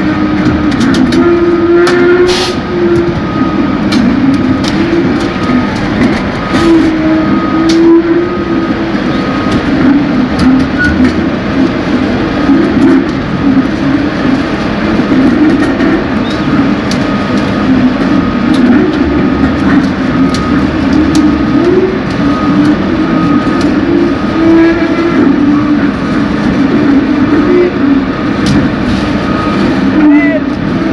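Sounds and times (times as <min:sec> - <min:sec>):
warning beeper: 0:00.0 - 0:30.5
heavy machinery droning: 0:00.0 - 0:30.9
machinery clanks and knocks: 0:00.0 - 0:30.9.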